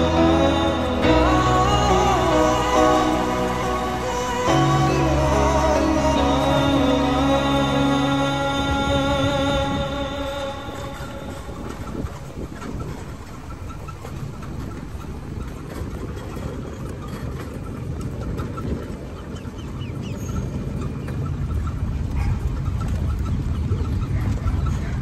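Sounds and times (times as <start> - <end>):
golf cart rolling rumble: 0.0 - 25.0.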